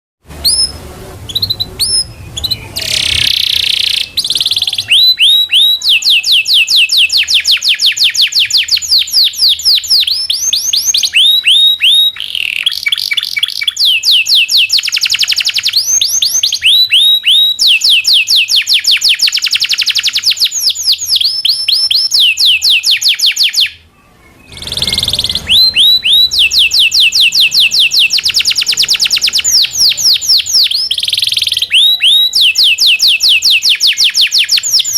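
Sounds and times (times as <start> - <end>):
canary singing: 0.3 - 34.9.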